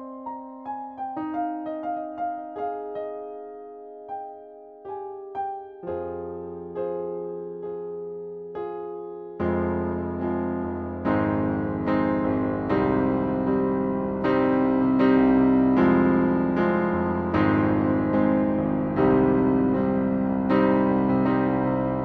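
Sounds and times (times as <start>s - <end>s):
slow solo piano piece: 0.0s - 22.0s.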